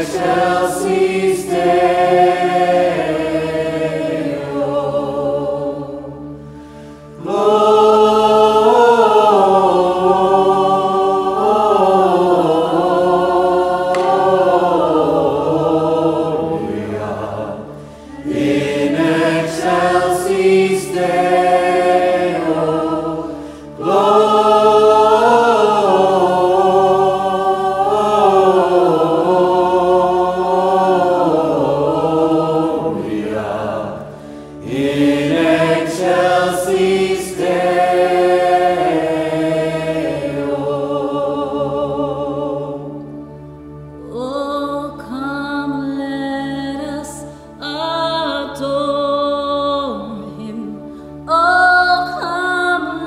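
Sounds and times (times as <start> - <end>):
choir singing: 0.0 - 53.0
low held accompaniment: 0.0 - 53.0.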